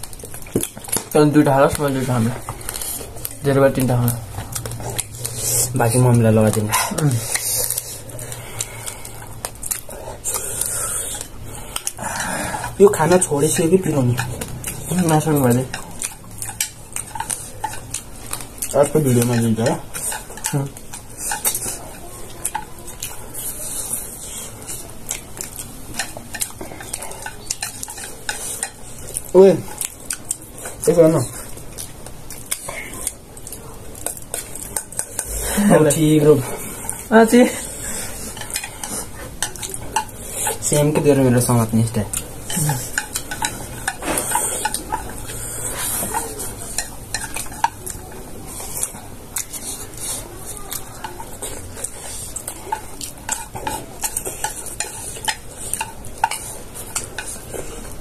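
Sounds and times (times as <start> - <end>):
utensils clinking and scraping plates: 0.0 - 31.5, 32.4 - 58.0
crisp chewing: 0.0 - 58.0.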